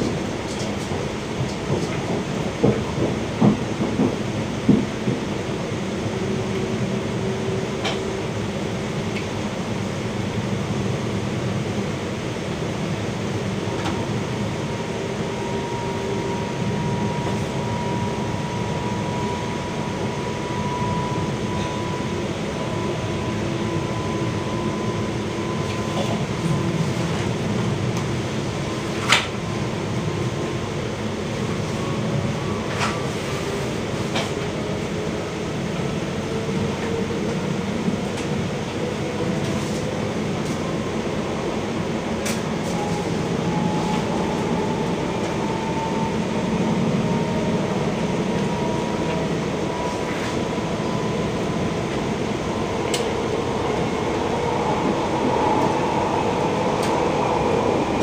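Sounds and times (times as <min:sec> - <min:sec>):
passenger train running noise: 0:00.0 - 0:58.0.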